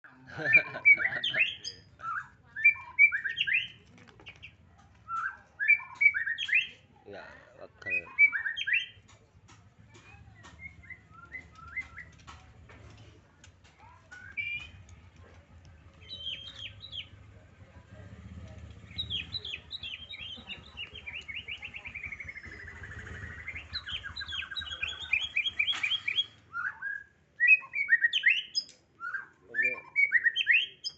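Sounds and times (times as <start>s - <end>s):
songbird singing: 0.1s - 30.9s
sharp bird calls: 0.4s - 9.3s, 9.9s - 13.1s, 13.7s - 30.9s.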